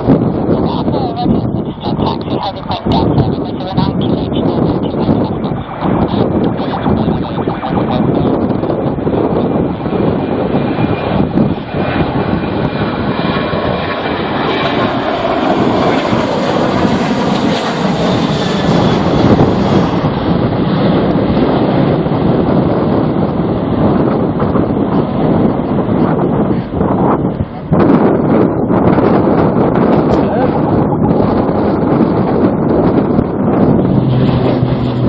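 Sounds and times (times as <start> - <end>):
aircraft engines whining: 0.0 - 35.0
wind buffeting microphone: 0.0 - 35.0.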